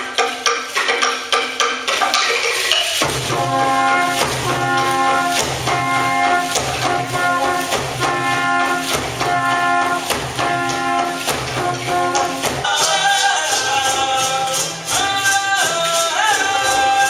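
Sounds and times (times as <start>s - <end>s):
steady percussion beat: 0.0s - 17.0s
brass band playing: 2.7s - 17.0s.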